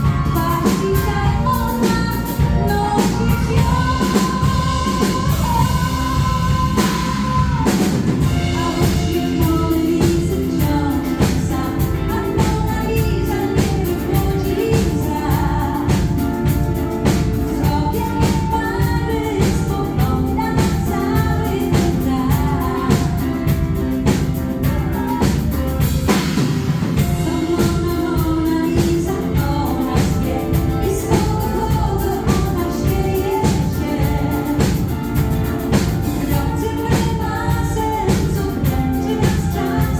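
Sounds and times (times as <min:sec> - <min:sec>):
woman singing: 0:00.0 - 0:26.2, 0:27.0 - 0:39.9
drums keeping a steady beat: 0:00.0 - 0:39.9
live pop band playing: 0:00.0 - 0:39.9.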